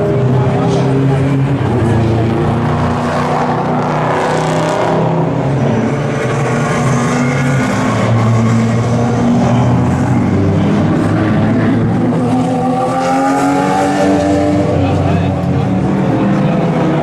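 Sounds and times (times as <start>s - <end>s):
racing cars accelerating past: 0.0s - 17.0s.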